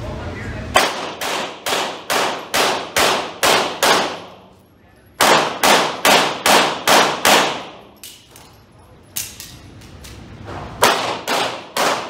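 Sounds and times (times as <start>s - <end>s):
pistol shots echoing indoors: 0.7s - 4.6s, 5.2s - 10.2s, 10.8s - 12.0s.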